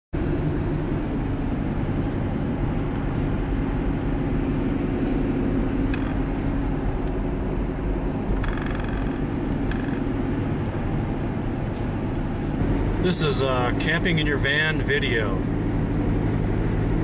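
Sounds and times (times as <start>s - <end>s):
engine and tyre rumble: 0.1s - 17.0s.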